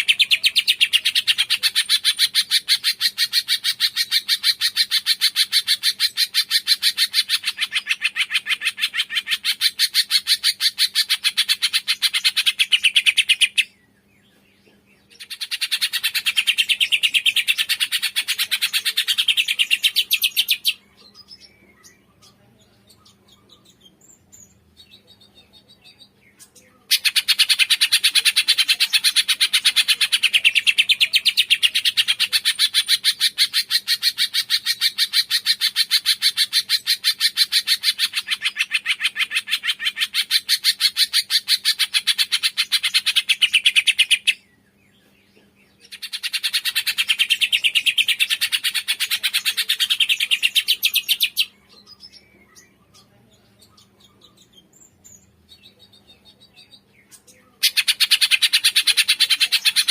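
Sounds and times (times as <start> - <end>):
songbird rapid chirps: 0.0 - 59.9.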